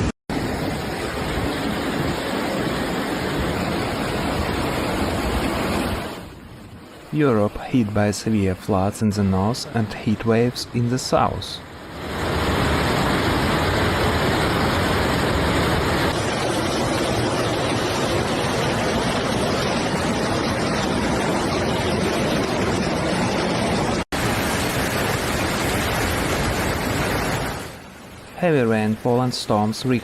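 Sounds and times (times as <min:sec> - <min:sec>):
floodwater roaring: 0:00.0 - 0:30.0.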